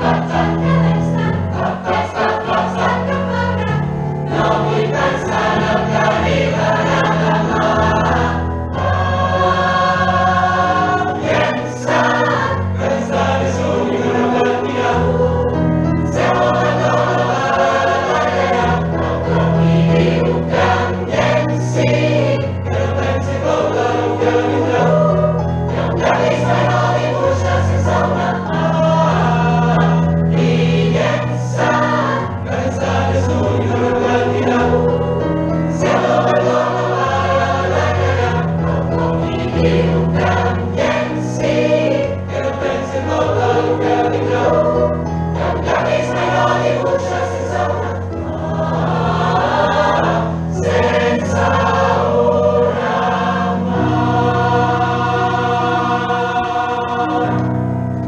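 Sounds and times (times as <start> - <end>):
choir singing pop song: 0.0 - 57.7
keyboard: 0.0 - 58.0.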